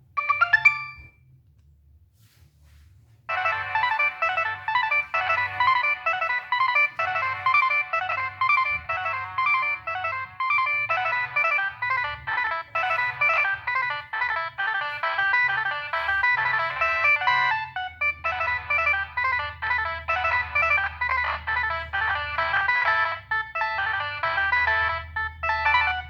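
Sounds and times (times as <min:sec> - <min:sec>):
polyphonic phone ringtone: 0:00.0 - 0:01.2, 0:03.3 - 0:26.0.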